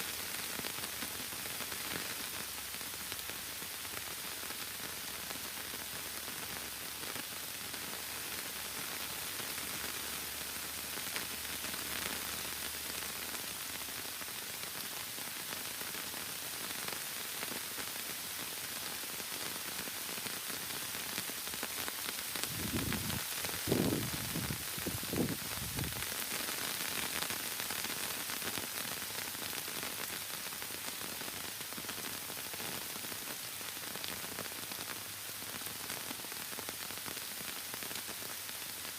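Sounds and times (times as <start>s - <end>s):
heavy rain on foliage: 0.0s - 38.9s.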